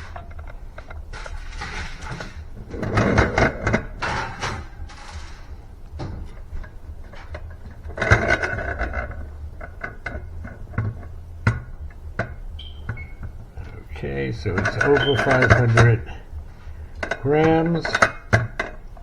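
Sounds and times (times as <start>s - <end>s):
rustling and scraping: 0.0s - 19.0s.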